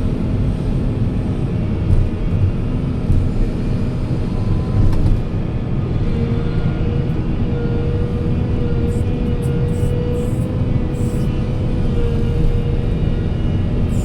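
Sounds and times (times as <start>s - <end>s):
steady whine: 0.0s - 14.0s
construction machine engine rumbling: 0.1s - 14.0s.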